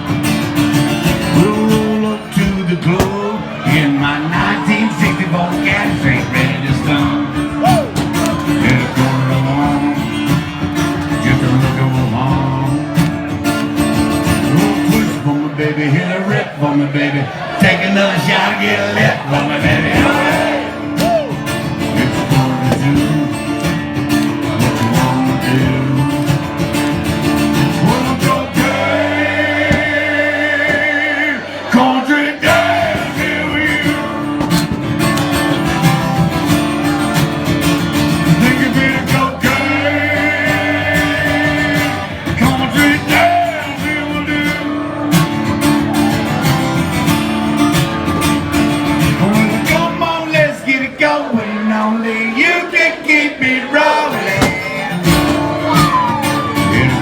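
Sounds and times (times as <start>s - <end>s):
live country band playing: 0.0s - 57.0s.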